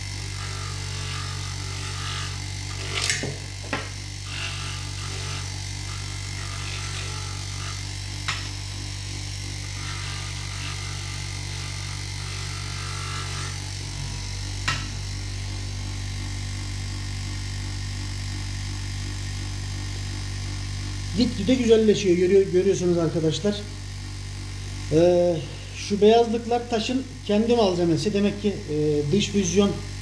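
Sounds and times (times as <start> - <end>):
bench grinder motor running: 0.0 - 30.0.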